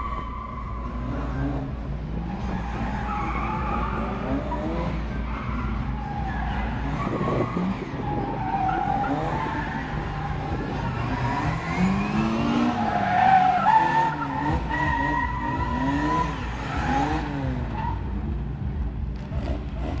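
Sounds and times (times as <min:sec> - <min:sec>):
tyres squealing on tarmac: 0:00.0 - 0:18.1
car engine revving hard: 0:00.8 - 0:18.4, 0:19.2 - 0:20.0.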